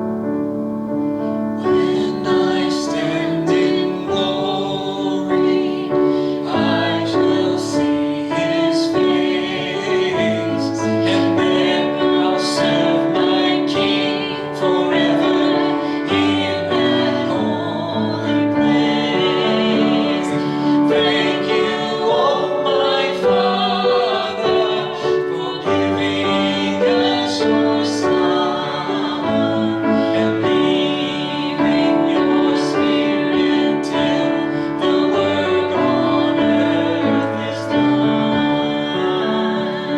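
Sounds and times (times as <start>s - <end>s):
piano accompaniment: 0.0s - 39.9s
person singing: 1.6s - 39.9s.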